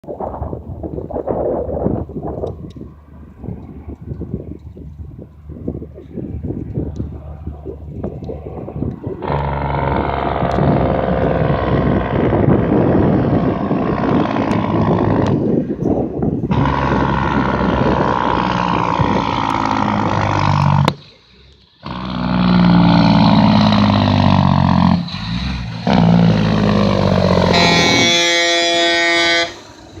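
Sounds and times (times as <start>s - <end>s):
truck engine revving: 1.7s - 30.0s.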